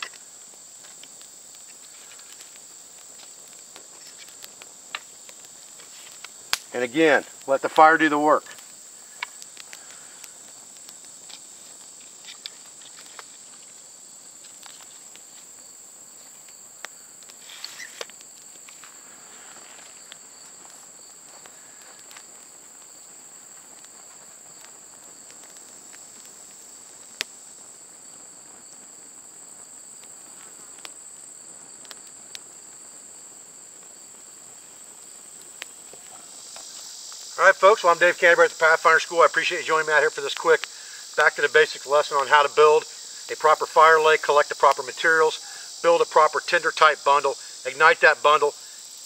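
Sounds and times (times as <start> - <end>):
crickets chirping: 0.0 - 49.0
fire crackling: 0.0 - 49.0
fire pops: 0.0 - 49.0.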